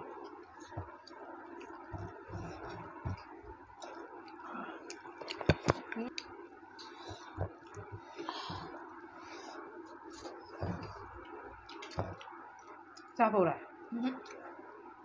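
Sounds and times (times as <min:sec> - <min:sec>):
fingers mixing food on plate: 0:00.0 - 0:13.1
soft chewing: 0:00.0 - 0:13.2, 0:14.0 - 0:14.7.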